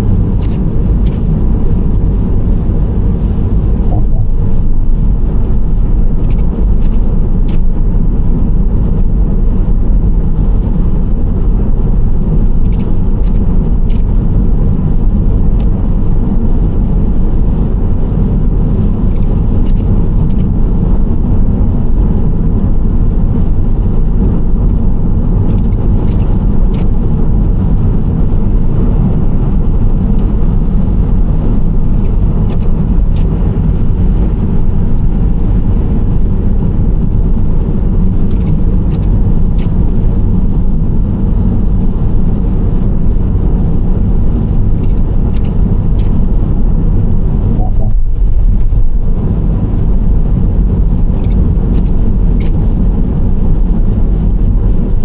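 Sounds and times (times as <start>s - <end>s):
road and engine noise: 0.0s - 55.0s.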